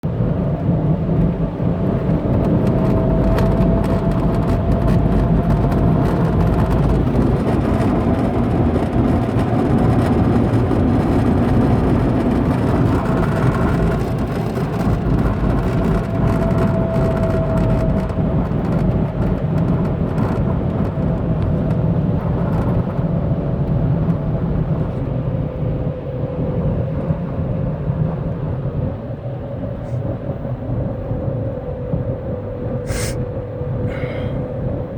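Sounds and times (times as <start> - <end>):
differential howling whine: 0.0 - 34.9
road rumble: 0.0 - 34.9.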